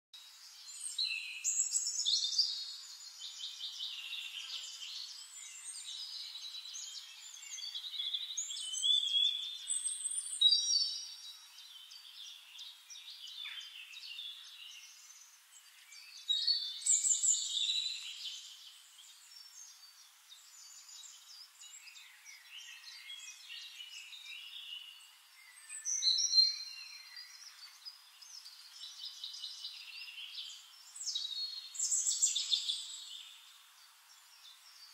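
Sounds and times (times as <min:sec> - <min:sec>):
songbirds chirping and singing: 0:00.2 - 0:34.9.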